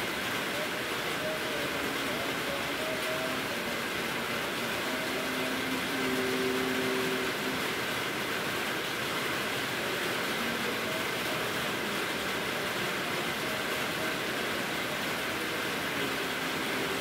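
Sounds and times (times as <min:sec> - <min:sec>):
rain falling on a roof: 0:00.0 - 0:17.0.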